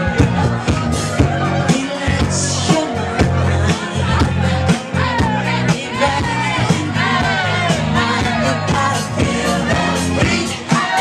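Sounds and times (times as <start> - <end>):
loud music with singing: 0.0 - 11.0.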